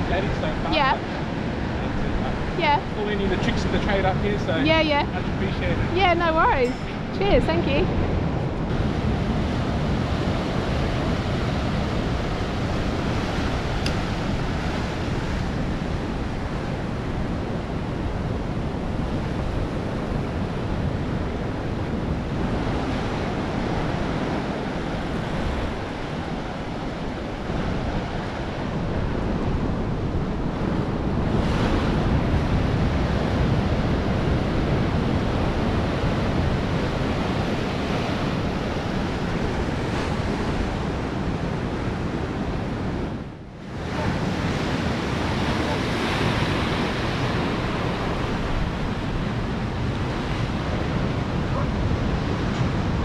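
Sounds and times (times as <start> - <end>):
ocean surf breaking: 0.0 - 53.0
wind buffeting microphone: 0.0 - 53.0.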